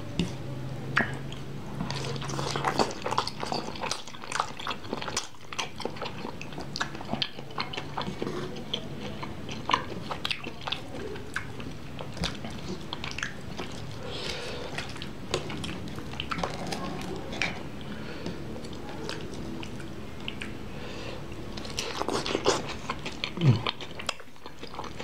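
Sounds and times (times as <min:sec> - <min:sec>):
slurping and chewing noodles: 0:00.2 - 0:25.0.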